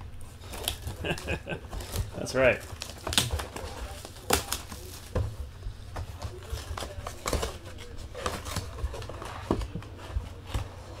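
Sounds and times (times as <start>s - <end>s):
cardboard boxes tapping and clicking: 0.5s - 11.0s.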